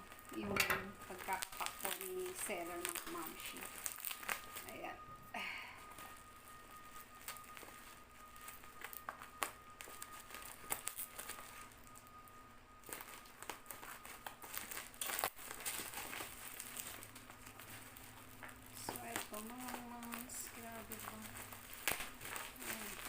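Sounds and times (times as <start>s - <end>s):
plastic wrapping crinkling: 0.0s - 23.0s.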